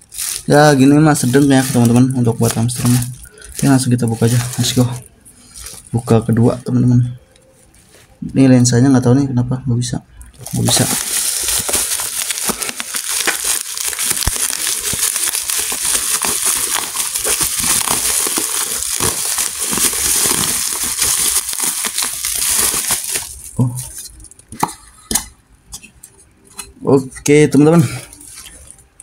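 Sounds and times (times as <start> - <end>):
bubble wrap crinkling: 0.0 - 8.2, 10.3 - 24.7, 26.2 - 29.0.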